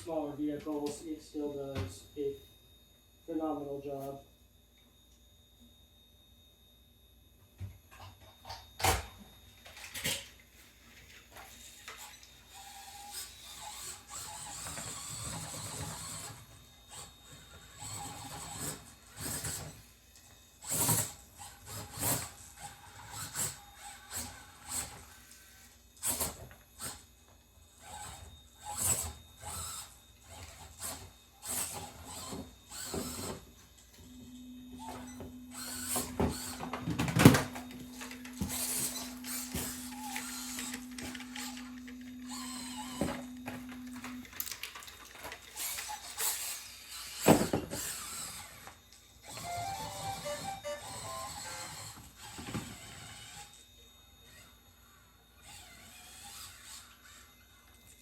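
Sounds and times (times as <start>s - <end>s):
electric motor and gears whirring: 0.0s - 4.2s, 7.5s - 58.0s.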